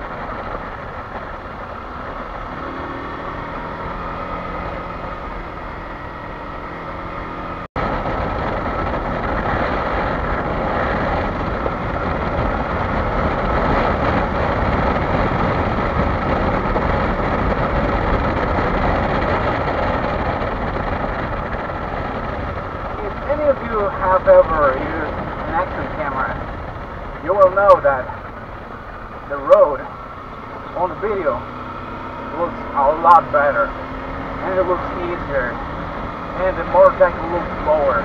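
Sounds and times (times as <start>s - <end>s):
motorcycle engine running: 0.0s - 38.0s
wind rushing: 0.0s - 38.0s.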